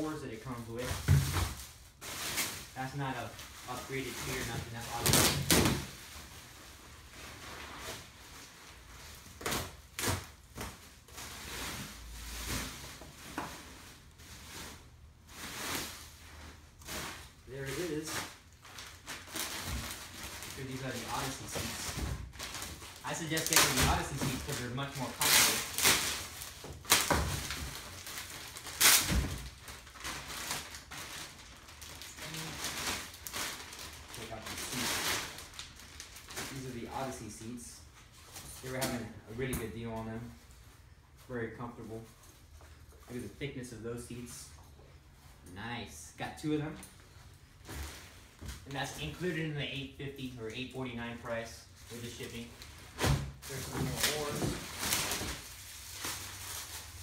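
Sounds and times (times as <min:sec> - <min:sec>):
plastic wrap crinkling: 0:00.0 - 0:39.4, 0:47.6 - 0:57.0.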